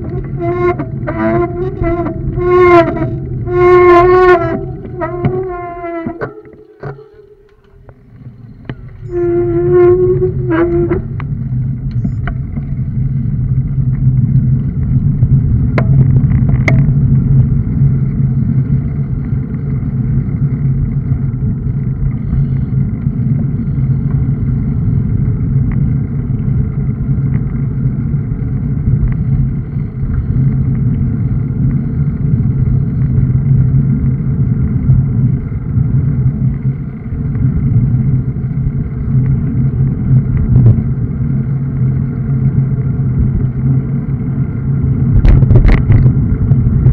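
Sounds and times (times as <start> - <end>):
wind rush on microphone: 0.0 - 7.0, 7.8 - 46.9
road rumble: 0.0 - 46.9.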